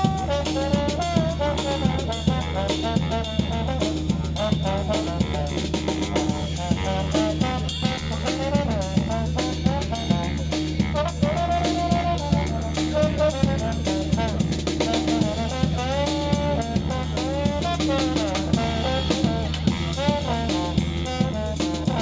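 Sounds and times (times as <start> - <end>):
drum kit beat: 0.0 - 22.0.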